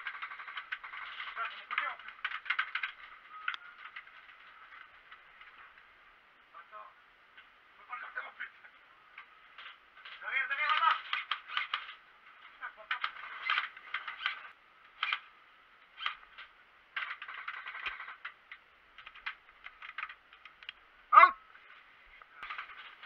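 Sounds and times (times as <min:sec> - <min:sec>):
distant voices: 0:00.0 - 0:23.0.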